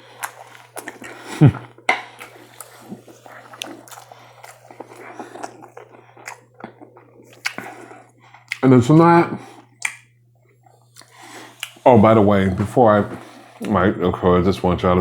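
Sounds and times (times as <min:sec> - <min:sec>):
person chewing: 0:00.0 - 0:08.6, 0:09.4 - 0:13.8.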